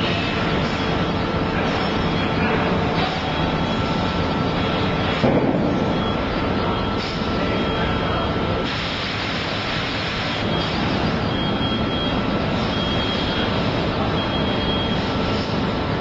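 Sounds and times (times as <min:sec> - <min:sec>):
industrial machinery drone: 0:00.0 - 0:16.0.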